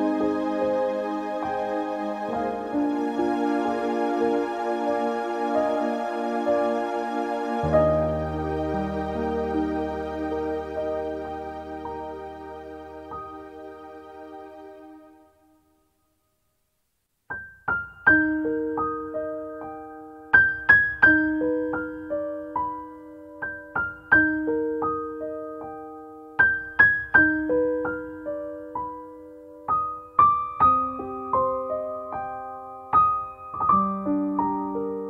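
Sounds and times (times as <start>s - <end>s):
slow solo piano: 0.0s - 15.2s, 17.3s - 35.0s.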